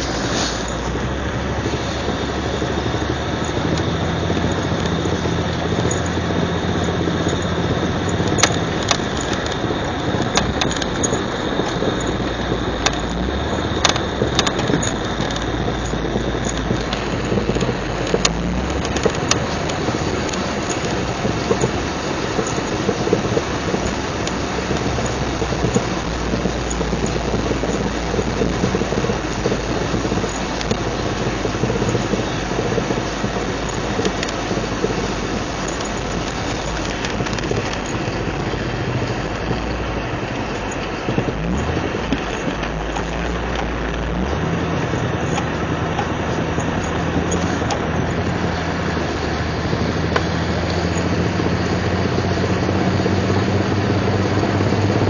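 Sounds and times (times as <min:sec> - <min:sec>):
grinding from front axle: 0:00.0 - 0:55.0
rattly drivetrain and road noise: 0:00.0 - 0:55.0
steady low hum: 0:00.0 - 0:55.0.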